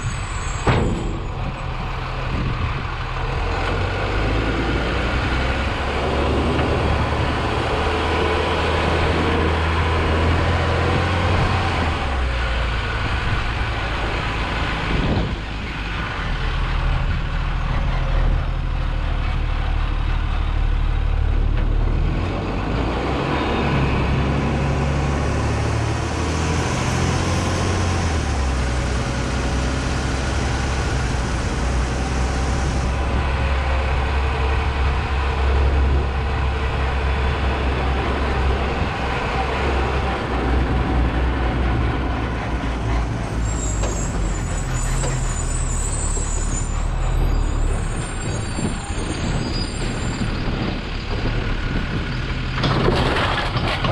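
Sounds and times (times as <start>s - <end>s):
garbage truck engine running: 0.0s - 53.9s.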